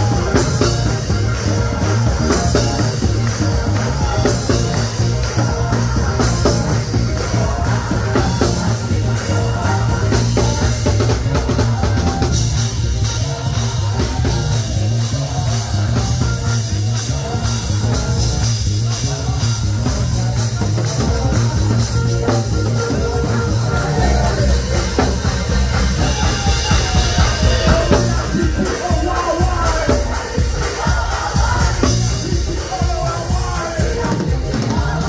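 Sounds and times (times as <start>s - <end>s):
drum kit playing: 0.0s - 35.0s
live gospel church music: 0.0s - 35.0s
low bass line: 0.0s - 35.0s.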